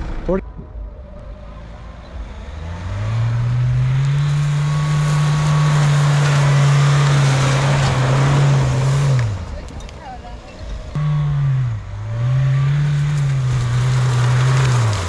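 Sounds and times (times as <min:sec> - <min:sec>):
engine revving: 0:00.0 - 0:09.7, 0:10.9 - 0:15.0.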